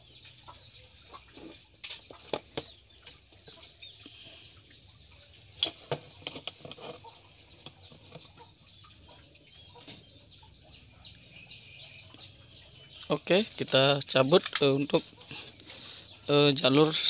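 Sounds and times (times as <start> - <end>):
chickens peeping: 0.0 - 17.0.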